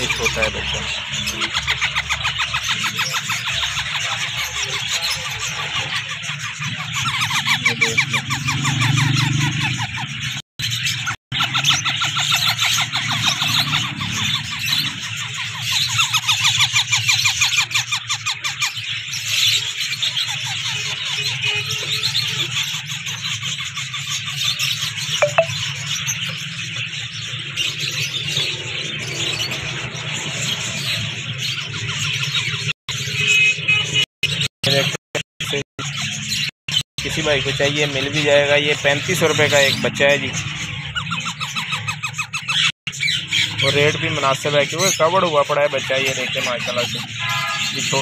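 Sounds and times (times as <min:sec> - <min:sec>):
parrot chicks begging calls: 0:00.0 - 0:48.0.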